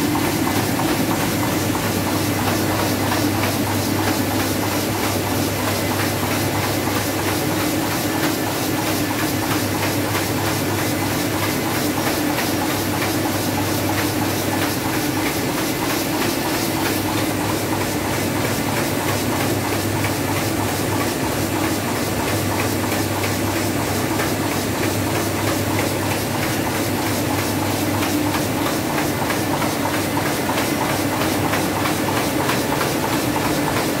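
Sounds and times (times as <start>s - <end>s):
printing press clattering: 0.0s - 34.0s.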